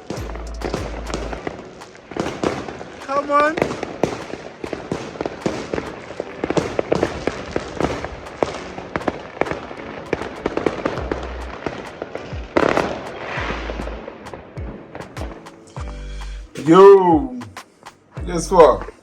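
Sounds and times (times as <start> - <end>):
fireworks popping and cracking: 0.0 - 15.8.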